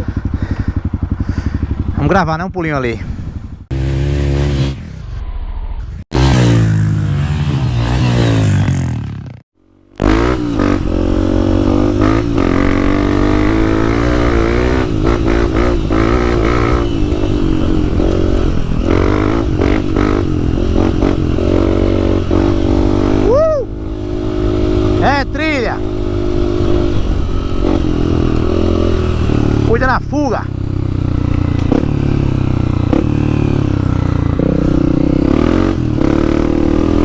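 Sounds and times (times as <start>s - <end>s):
dirt bike engine revving: 3.1s - 5.0s, 6.1s - 37.0s.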